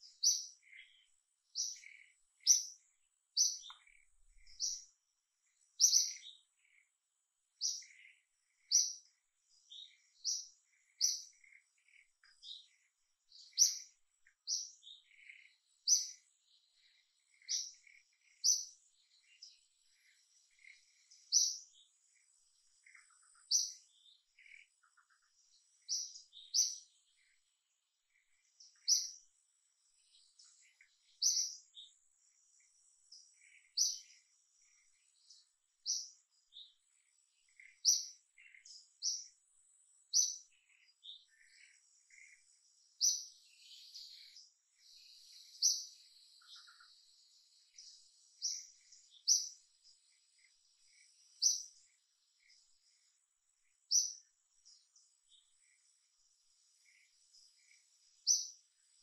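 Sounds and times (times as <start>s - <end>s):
birds chirping: 0.0s - 59.0s
faint insect drone: 0.0s - 59.0s.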